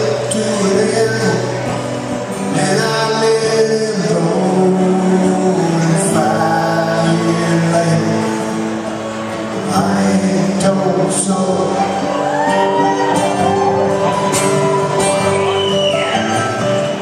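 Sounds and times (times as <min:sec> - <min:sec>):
person singing: 0:00.0 - 0:14.8
strummed acoustic guitar: 0:00.0 - 0:17.0.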